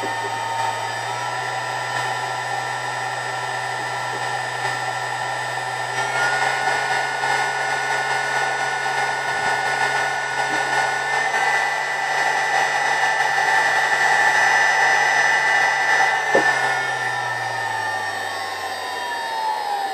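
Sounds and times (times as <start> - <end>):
spindle motor whine: 0.0 - 19.9.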